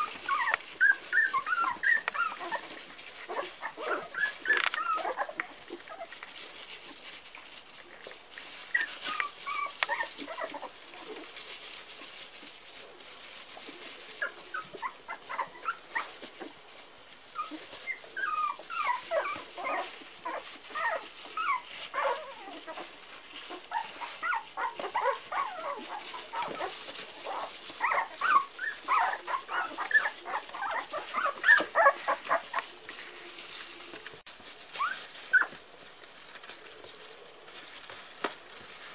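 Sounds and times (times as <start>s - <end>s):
puppies whimpering and yipping: 0.0s - 7.7s, 8.4s - 34.0s, 34.6s - 35.6s.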